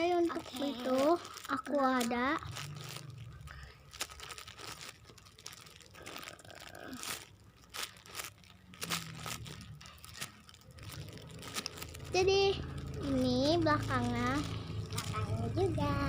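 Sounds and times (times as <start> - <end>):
toys crinkling and rustling: 0.0 - 16.0.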